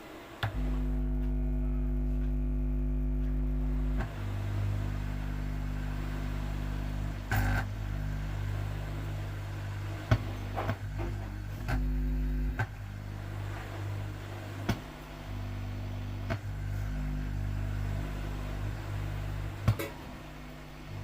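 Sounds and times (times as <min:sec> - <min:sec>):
loud mains hum from speaker: 0:00.0 - 0:21.0.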